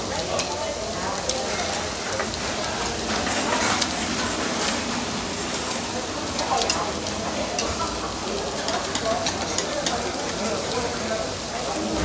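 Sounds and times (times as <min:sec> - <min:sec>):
indistinct voices: 0:00.0 - 0:12.0
meat sizzling on grill: 0:00.0 - 0:12.0.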